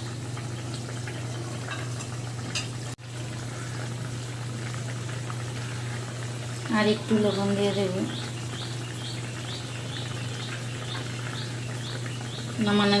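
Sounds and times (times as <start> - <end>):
curry bubbling in a pot: 0.0 - 13.0.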